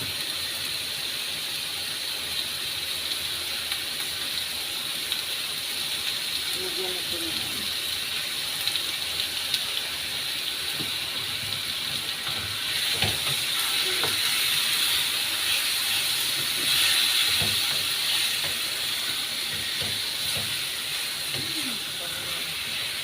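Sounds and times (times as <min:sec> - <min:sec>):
chicken sizzling in a pan: 0:00.0 - 0:23.0.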